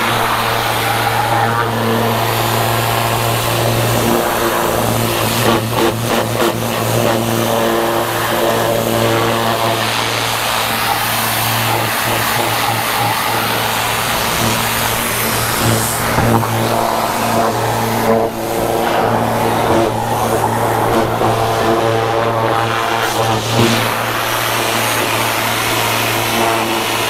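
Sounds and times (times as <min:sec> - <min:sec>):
machine motor humming: 0:00.0 - 0:27.0.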